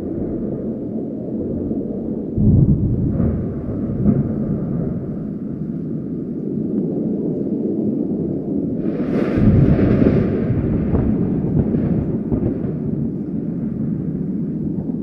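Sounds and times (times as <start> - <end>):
thunder crack and rumble: 0.0 - 15.0
wind: 0.0 - 15.0.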